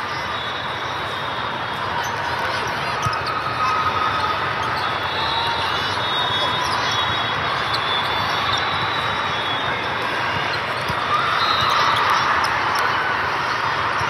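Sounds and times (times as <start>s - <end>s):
hubbub of players and spectators: 0.0s - 14.0s.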